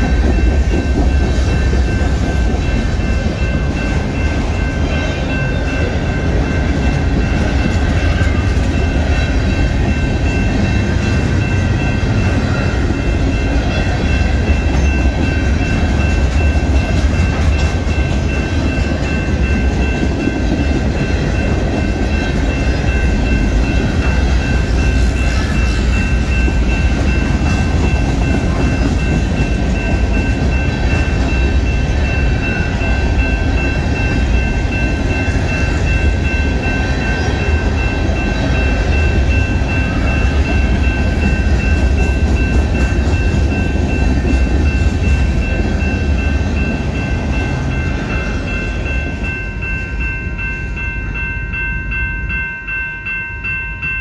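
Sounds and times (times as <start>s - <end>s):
crossing warning bell ringing: 0.0s - 54.0s
freight train rumbling past: 0.0s - 54.0s.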